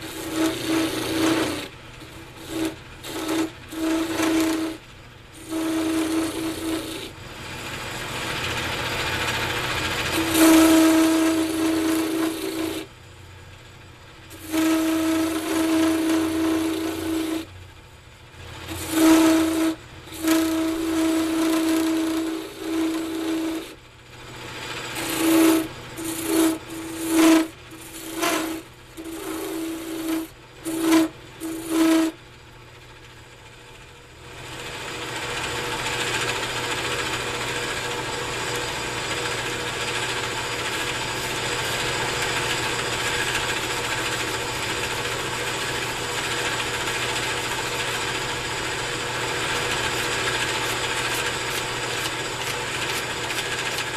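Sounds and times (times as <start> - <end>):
turning tool cutting wood: 0.0 - 13.0, 14.2 - 17.6, 18.4 - 32.2, 34.6 - 53.9
wood lathe turning: 0.0 - 17.7, 18.4 - 53.9
steady mechanical whirring: 0.0 - 53.9.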